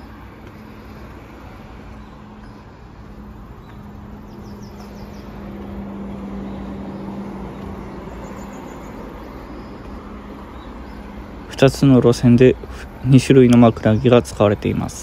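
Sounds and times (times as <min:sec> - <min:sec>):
birds chirping: 0:00.0 - 0:15.0
vehicle engine hum: 0:00.0 - 0:15.0.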